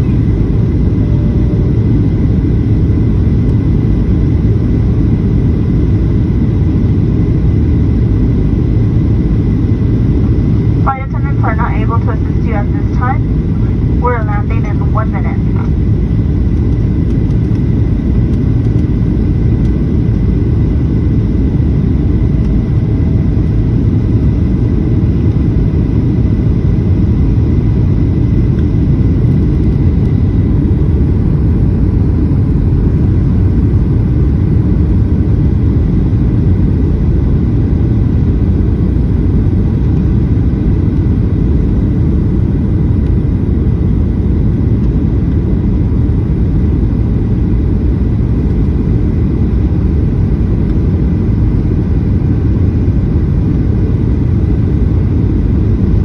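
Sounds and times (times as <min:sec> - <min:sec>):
airliner engine and airflow rumble: 0:00.0 - 0:56.0.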